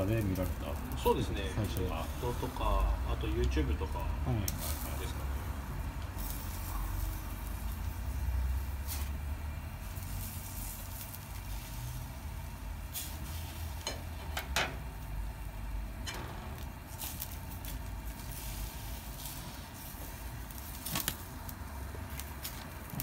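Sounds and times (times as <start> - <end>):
skewers sizzling on a grill: 0.0 - 23.0.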